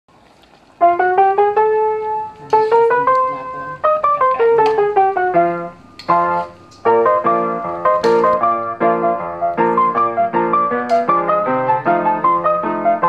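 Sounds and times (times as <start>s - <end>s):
piano melody: 0.7s - 13.0s.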